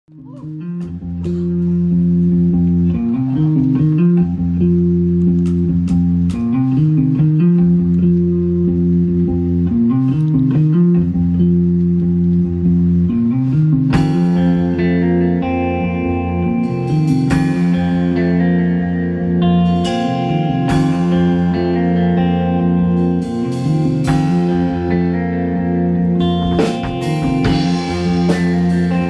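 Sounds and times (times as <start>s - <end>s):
steady low bass: 0.0s - 29.0s
rock band guitar chords: 0.1s - 29.0s.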